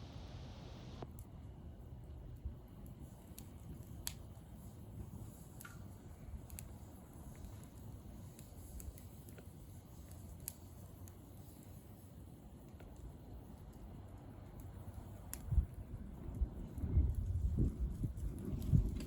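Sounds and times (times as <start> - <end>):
low steady rumble: 0.0 - 19.0
wood fire crackling: 0.0 - 19.0
fire pops and snaps: 0.9 - 19.0.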